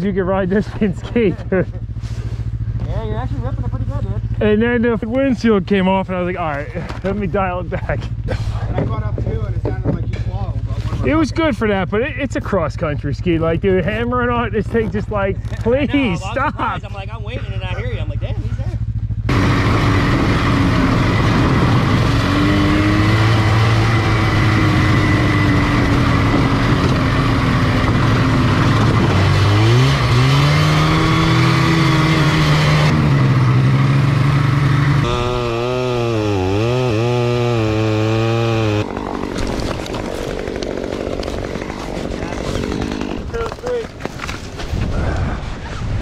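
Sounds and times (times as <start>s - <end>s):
snowmobile engine revving: 0.0s - 9.6s, 10.6s - 44.8s.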